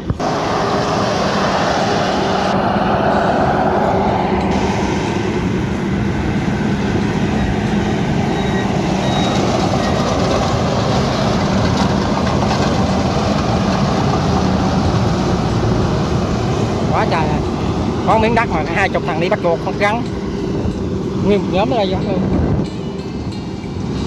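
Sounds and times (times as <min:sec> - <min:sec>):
harvester engine humming: 0:00.0 - 0:24.0.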